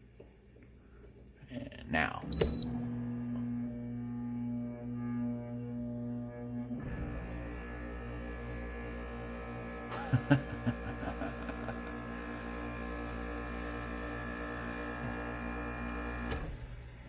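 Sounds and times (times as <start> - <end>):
air conditioner electrical buzz: 0.0 - 17.0.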